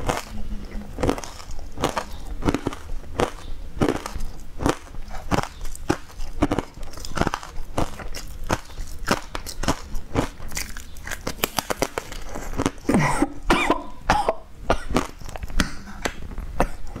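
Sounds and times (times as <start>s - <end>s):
person crunching and chewing: 0.0s - 14.0s, 14.6s - 17.0s.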